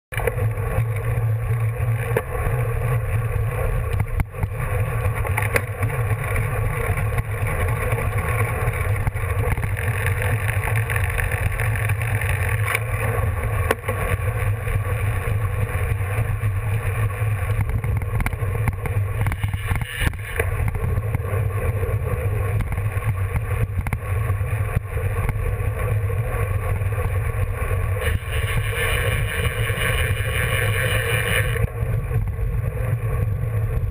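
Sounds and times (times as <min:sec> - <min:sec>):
bicycle tyres humming on road: 0:00.1 - 0:33.9.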